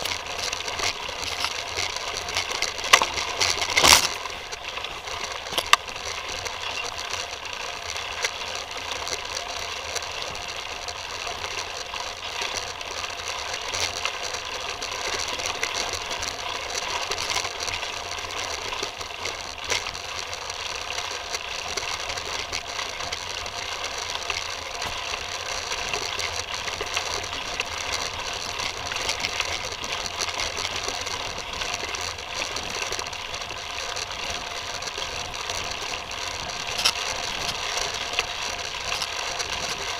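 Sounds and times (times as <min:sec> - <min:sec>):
bike chain and frame rattling: 0:00.0 - 0:39.9.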